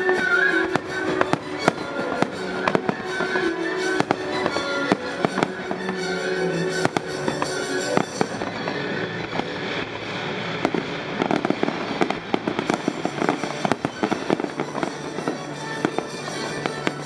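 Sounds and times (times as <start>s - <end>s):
fireworks cracking: 0.0s - 17.0s
music playing: 0.0s - 17.0s.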